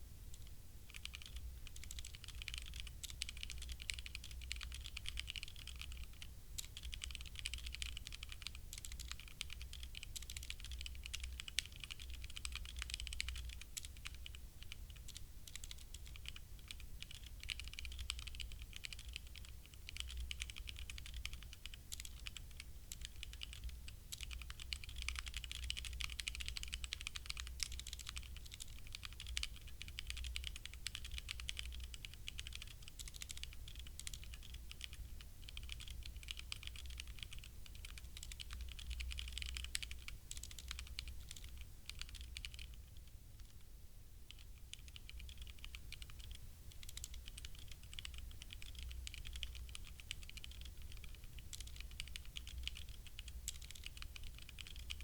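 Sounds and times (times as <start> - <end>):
mechanical keyboard typing: 0.4 - 43.6, 44.3 - 55.0.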